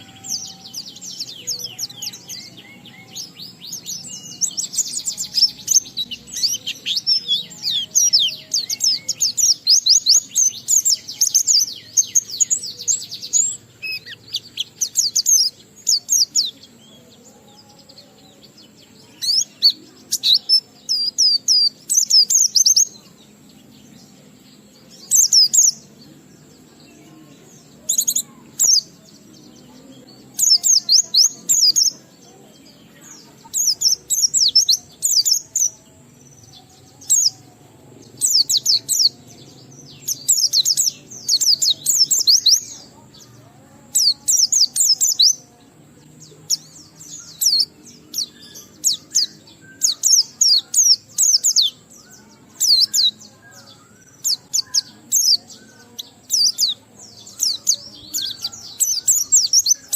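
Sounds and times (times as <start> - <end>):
bird singing high twittering phrases: 0.0 - 59.9.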